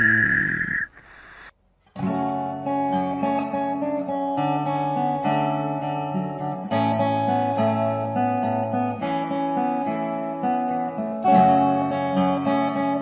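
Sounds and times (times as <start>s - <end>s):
acoustic guitar playing: 1.7s - 13.0s.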